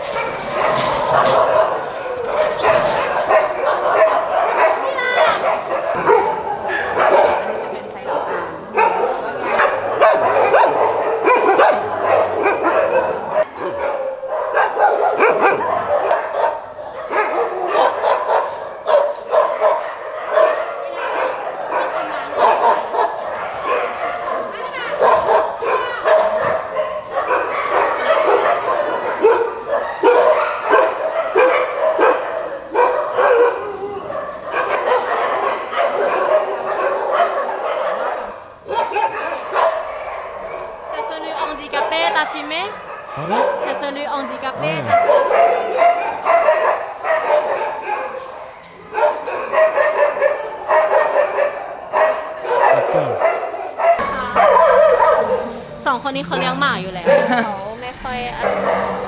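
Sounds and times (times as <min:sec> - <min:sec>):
dogs barking and yelping: 0:00.0 - 0:59.0.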